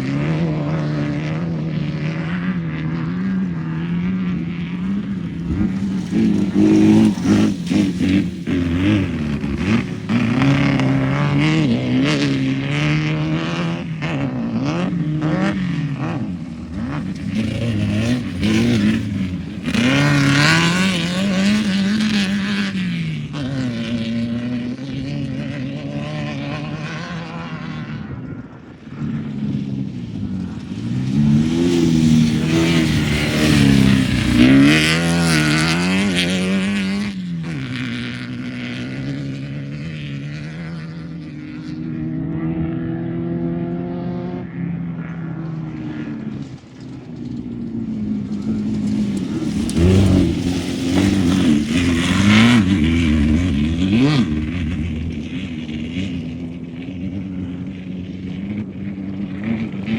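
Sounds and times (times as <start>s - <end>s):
race vehicle engine revving: 0.0s - 59.9s.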